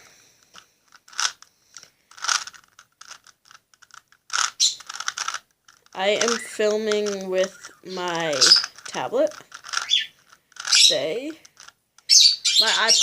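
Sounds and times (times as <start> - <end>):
puzzle cube clicking and scraping: 0.1 - 13.0.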